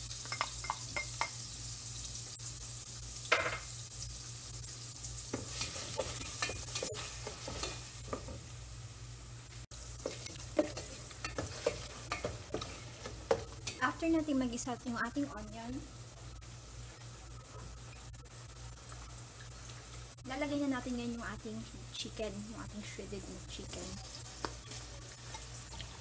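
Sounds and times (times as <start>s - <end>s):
onion sizzling in butter: 0.0s - 26.0s.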